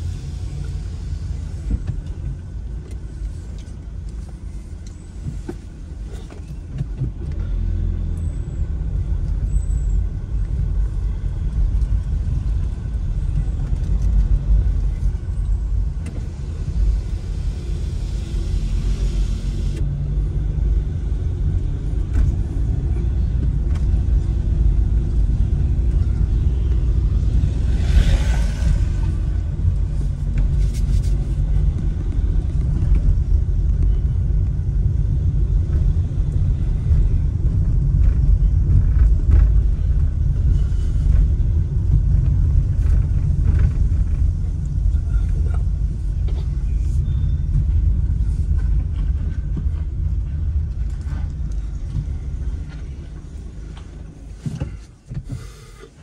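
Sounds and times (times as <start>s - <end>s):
vehicle rumbling on road: 0.0s - 56.0s.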